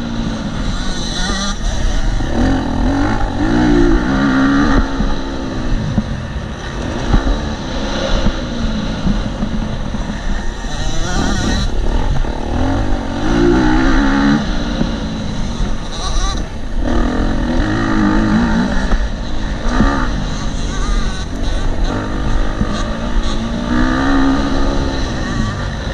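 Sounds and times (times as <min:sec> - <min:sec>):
motocross bike engine revving: 0:00.0 - 0:25.9.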